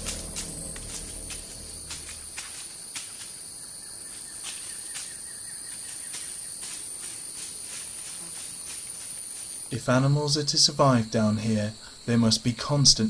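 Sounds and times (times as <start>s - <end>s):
insect chorus high-pitched trill: 0.0s - 13.0s.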